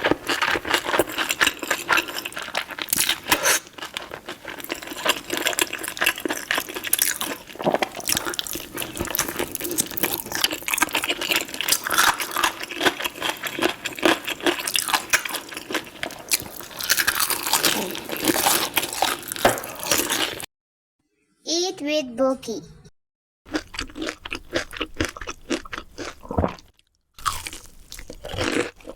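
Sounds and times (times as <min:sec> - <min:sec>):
person chewing crunchy food: 0:00.0 - 0:20.5, 0:23.5 - 0:28.9.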